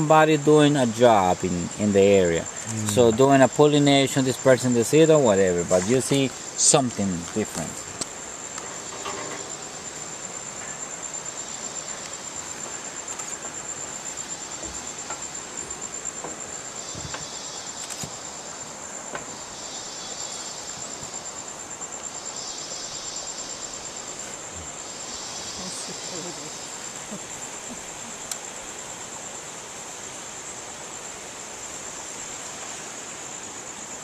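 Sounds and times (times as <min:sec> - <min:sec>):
insect low buzz: 0:00.0 - 0:34.0
insect pulsing trill: 0:00.0 - 0:34.0.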